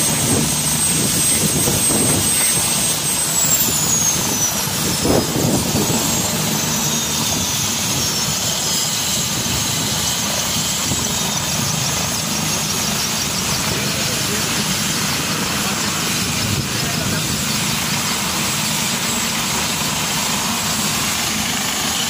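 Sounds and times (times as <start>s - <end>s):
helicopter rotor chop: 0.0s - 22.0s
high turbine whine: 0.0s - 22.0s.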